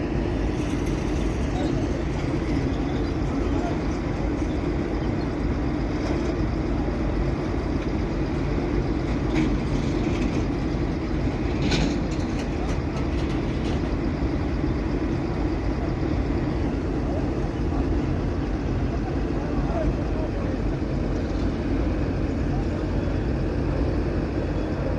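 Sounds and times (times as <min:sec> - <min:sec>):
construction machinery engine drone: 0:00.0 - 0:24.9.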